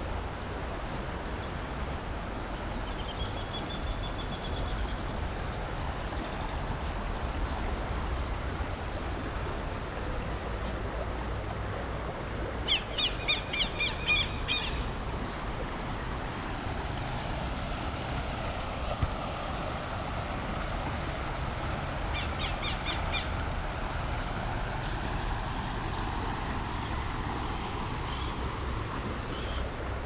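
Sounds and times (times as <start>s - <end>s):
river flowing over riffles: 0.0s - 30.0s.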